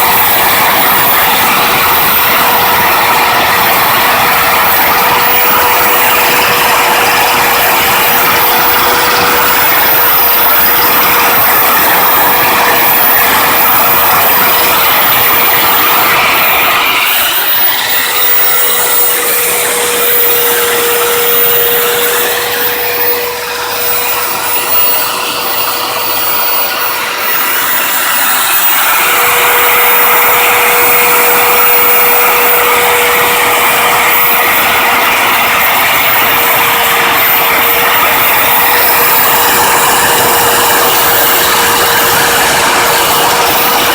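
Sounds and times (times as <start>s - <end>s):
lathe milling machine running: 0.0s - 43.9s.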